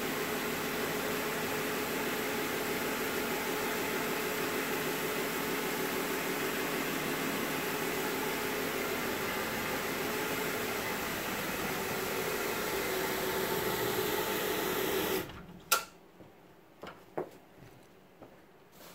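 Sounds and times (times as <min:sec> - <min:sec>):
carpet brush machine running: 0:00.0 - 0:15.5.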